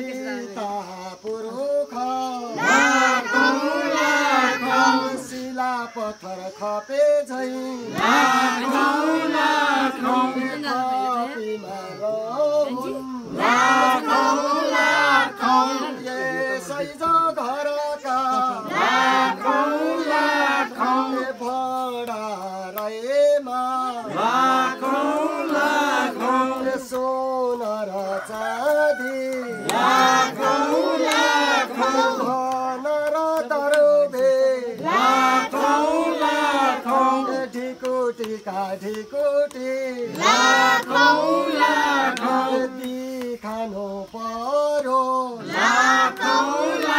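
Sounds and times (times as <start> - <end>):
group singing a carol: 0.0 - 46.9.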